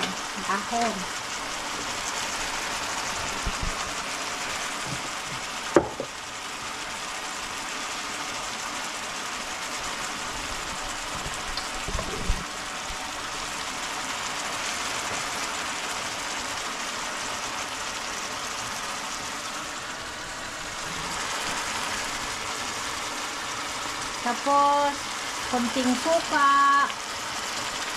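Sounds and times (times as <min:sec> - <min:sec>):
food sizzling and bubbling in a pan: 0:00.0 - 0:27.9.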